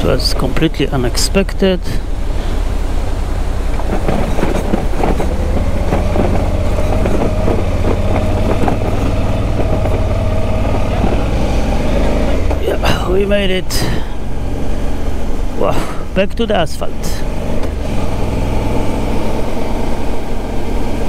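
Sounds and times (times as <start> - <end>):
steady whine: 0.0 - 17.0
motorcycle engine running: 2.0 - 16.2, 16.9 - 21.0.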